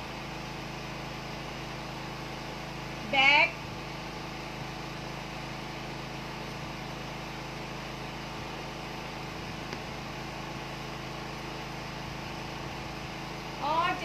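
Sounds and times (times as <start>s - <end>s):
mechanical hum with hiss: 0.0s - 14.0s.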